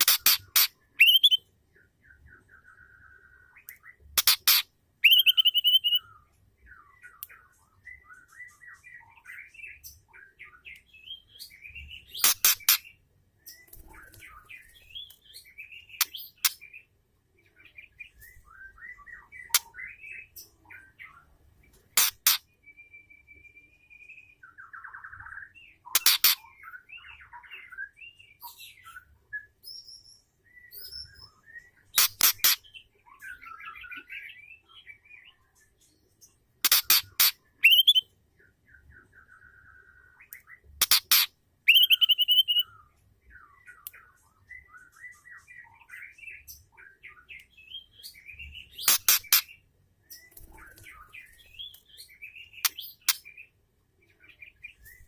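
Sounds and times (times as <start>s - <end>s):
bird chirps and warbles: 0.0s - 55.0s.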